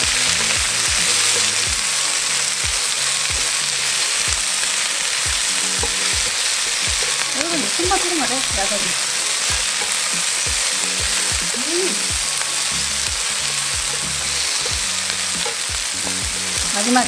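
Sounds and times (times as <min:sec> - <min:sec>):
chopsticks stirring: 0:00.0 - 0:17.0
food sizzling in a frying pan: 0:00.0 - 0:17.0.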